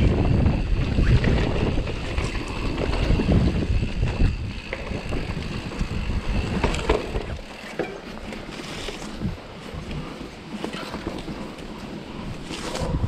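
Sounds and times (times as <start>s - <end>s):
bike rumbling and rattling: 0.0s - 13.0s
wind buffeting microphone: 0.0s - 13.0s.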